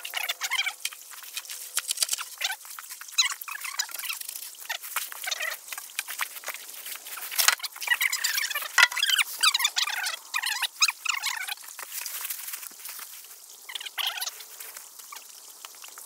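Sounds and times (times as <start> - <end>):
dry leaves crackling and rustling: 1.0 - 9.6, 10.8 - 16.0.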